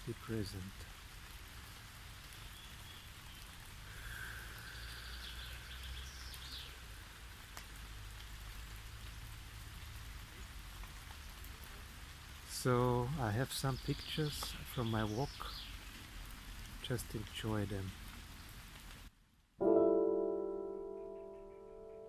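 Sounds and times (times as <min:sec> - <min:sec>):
light rain falling: 0:00.0 - 0:19.6.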